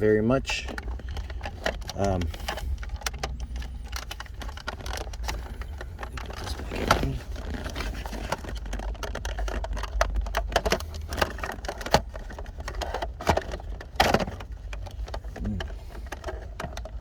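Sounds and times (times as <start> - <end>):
plastic clicks and rattles: 0.5 - 17.0.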